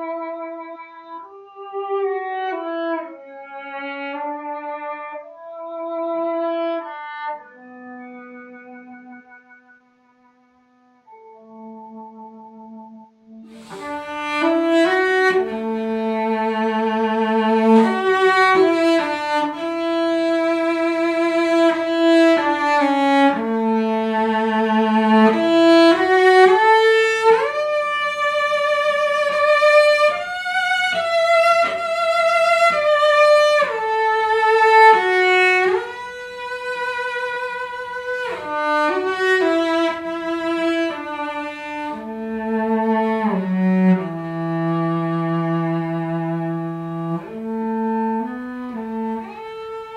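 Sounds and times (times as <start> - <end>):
solo violin melody: 0.0 - 49.9.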